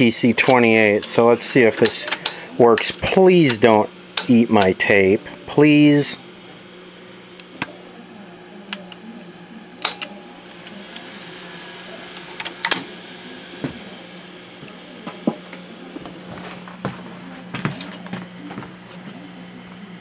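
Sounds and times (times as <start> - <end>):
tape machine hum: 0.0 - 20.0.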